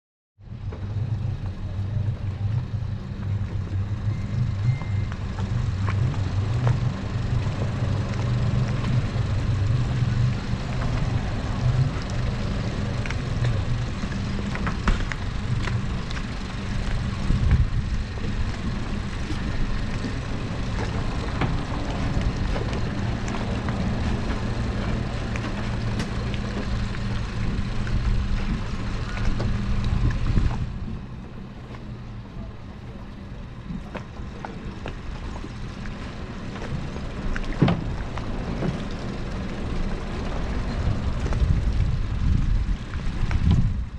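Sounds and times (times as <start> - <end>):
motorboat engine humming: 0.4 - 43.9.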